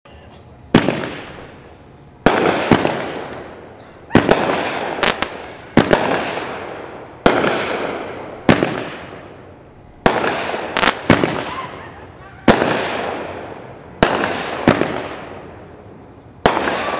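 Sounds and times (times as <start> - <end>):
firework bangs with hiss: 0.2 - 16.9.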